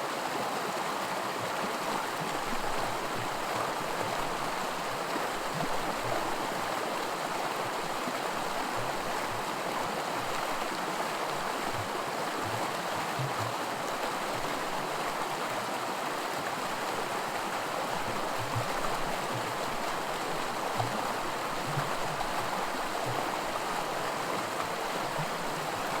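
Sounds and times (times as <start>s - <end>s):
creek rushing over rocks: 0.0s - 26.0s.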